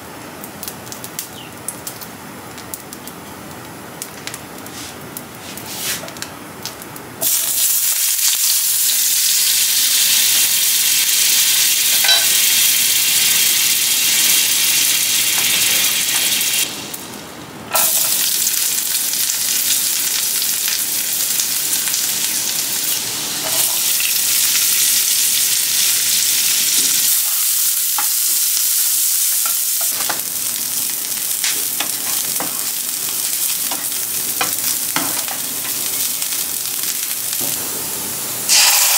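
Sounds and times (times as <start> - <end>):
garlic and onions sizzling: 0.0 - 38.9.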